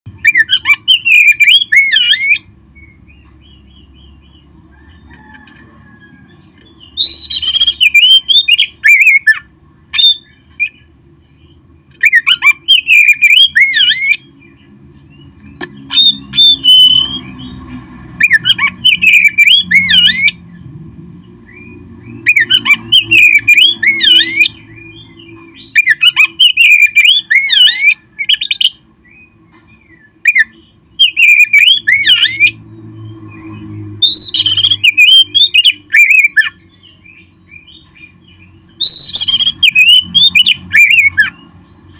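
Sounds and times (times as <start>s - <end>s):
bird singing whistled notes: 0.1s - 4.9s, 6.6s - 14.6s, 15.2s - 17.6s, 21.4s - 41.9s.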